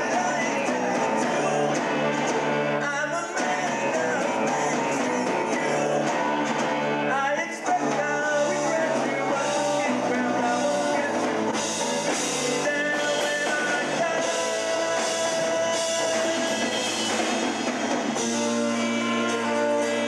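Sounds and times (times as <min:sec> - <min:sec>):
electric guitar: 0:00.0 - 0:20.0
lead vocal singing: 0:00.0 - 0:20.0
rock band playing: 0:00.0 - 0:20.0.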